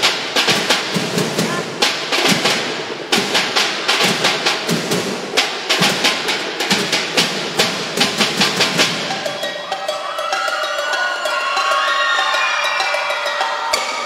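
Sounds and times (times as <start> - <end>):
drums playing fast rhythm: 0.0 - 14.0.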